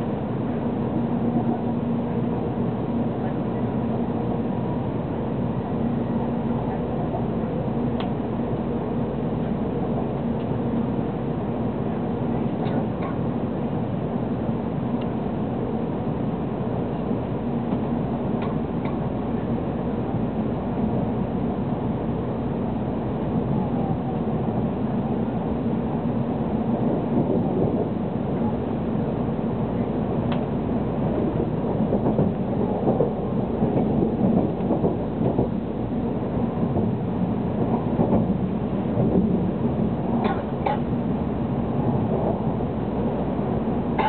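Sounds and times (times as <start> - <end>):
train interior rumble: 0.0 - 44.0.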